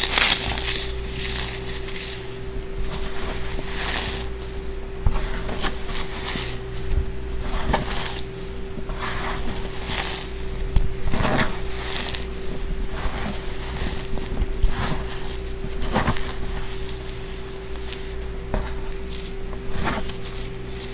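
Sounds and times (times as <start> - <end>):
gloved hands crunching baking soda: 0.0 - 20.9
low hum: 0.0 - 20.9.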